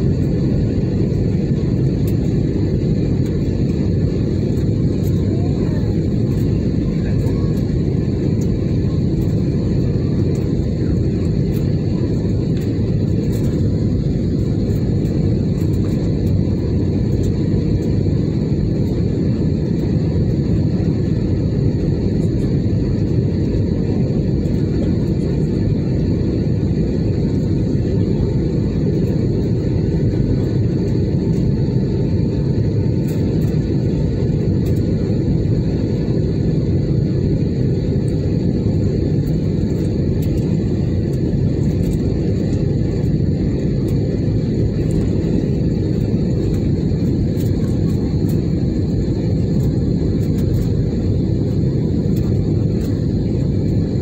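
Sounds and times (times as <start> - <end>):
aircraft cabin engine rumble: 0.0 - 54.0
faint high whine: 0.0 - 54.0.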